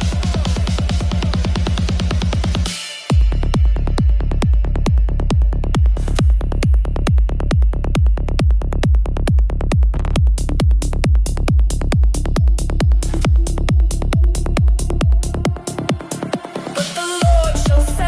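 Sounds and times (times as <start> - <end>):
electronic trance music: 0.0 - 18.0
hi-hats ticking: 0.0 - 18.0
kick drum: 0.0 - 18.0.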